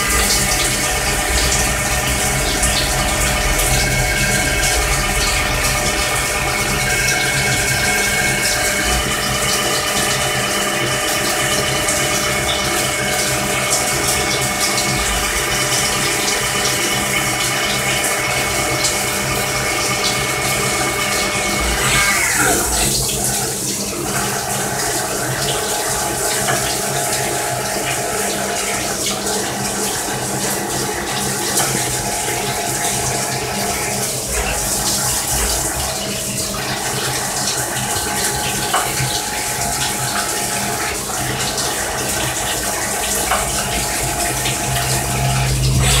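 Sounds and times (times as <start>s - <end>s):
coolant hissing: 0.0s - 46.0s
lathe humming and whining: 0.0s - 46.0s.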